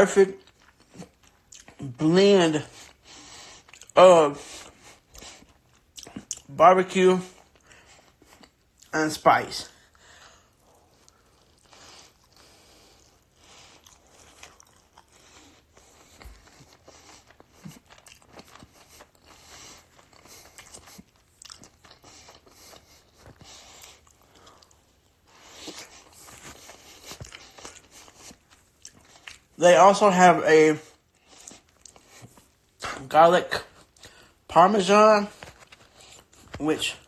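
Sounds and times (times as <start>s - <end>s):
person chewing crunchy food: 0.3s - 9.0s, 9.8s - 29.6s, 30.9s - 34.5s, 35.3s - 37.0s.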